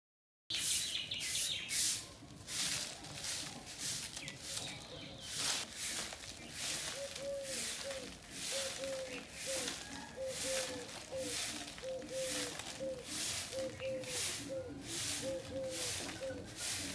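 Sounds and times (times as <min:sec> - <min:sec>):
birds chirping: 0:00.5 - 0:16.9
broom sweeping dirt: 0:00.5 - 0:16.9.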